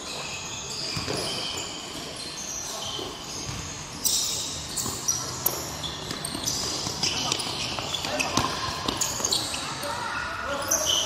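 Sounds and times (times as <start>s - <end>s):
shoes squeaking on floor: 0.0s - 11.0s.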